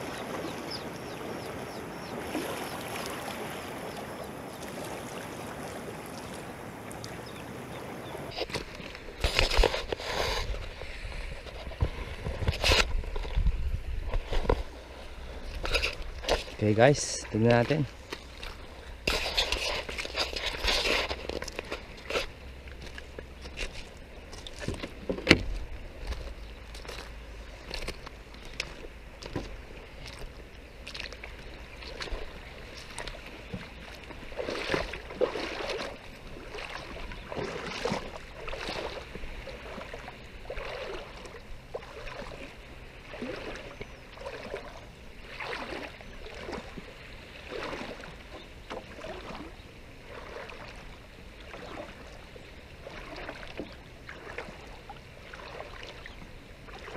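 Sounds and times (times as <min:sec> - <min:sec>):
boots splashing through water: 0:00.0 - 0:56.9.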